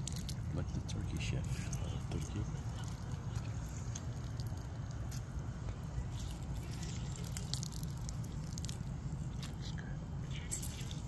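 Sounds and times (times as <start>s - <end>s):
juice dripping and splashing: 0.0s - 11.0s
small clicks and crackles: 0.0s - 11.0s
steady low rumble: 0.0s - 11.0s.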